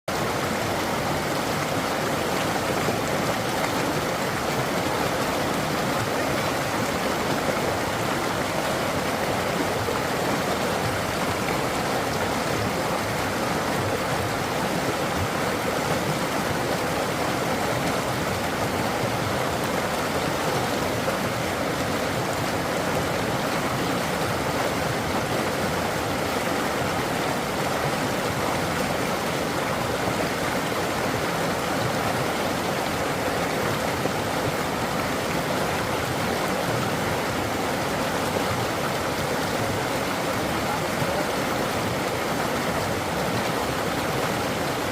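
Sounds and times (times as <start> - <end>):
running water rushing: 0.1 - 44.9.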